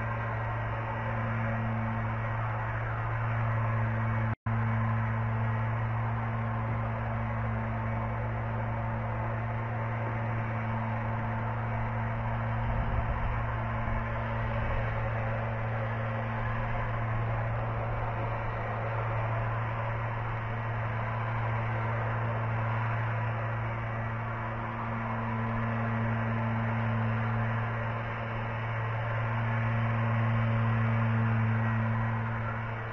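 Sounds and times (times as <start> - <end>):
low electrical hum: 0.0 - 32.9.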